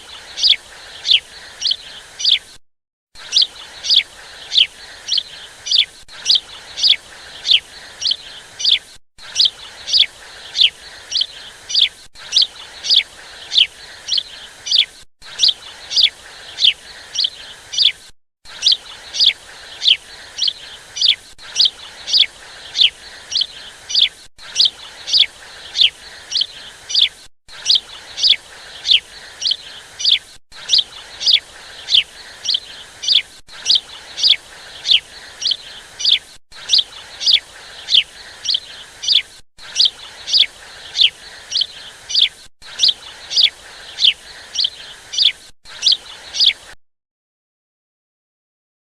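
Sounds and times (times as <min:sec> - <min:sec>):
bird twittering high chirps: 0:00.0 - 0:02.4, 0:03.2 - 0:46.7.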